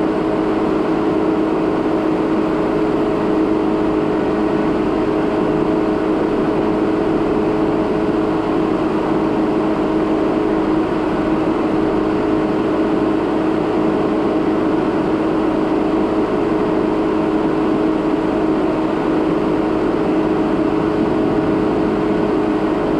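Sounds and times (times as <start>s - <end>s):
car engine drone: 0.0s - 22.9s.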